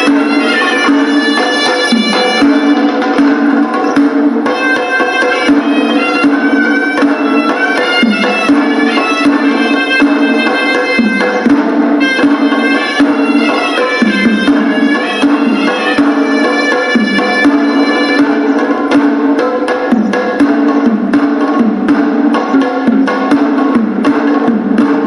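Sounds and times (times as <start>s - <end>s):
quick drum strokes: 0.0s - 25.0s
shawm reedy melody: 0.0s - 25.0s.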